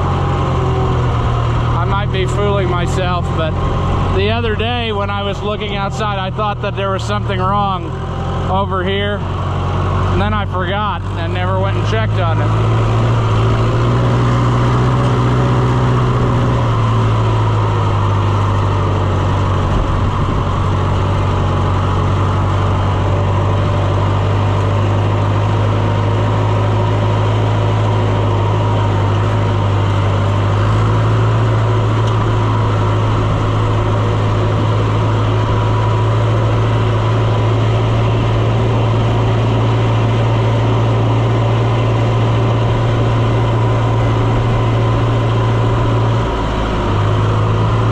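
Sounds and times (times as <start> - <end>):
farm vehicle engine droning: 0.0 - 47.9.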